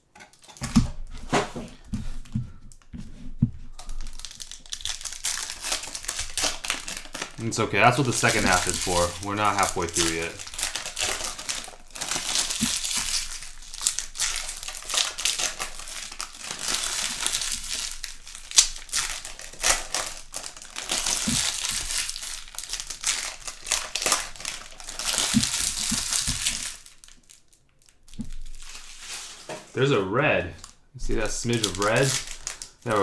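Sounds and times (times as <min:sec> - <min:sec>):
card pack wrappers crinkling: 0:00.1 - 0:00.9, 0:03.7 - 0:33.0.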